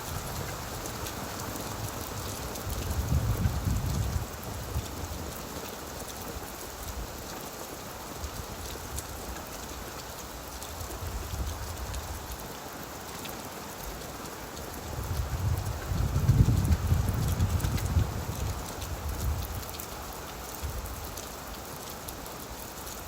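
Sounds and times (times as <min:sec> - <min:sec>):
rain falling on leaves: 0:00.0 - 0:23.0.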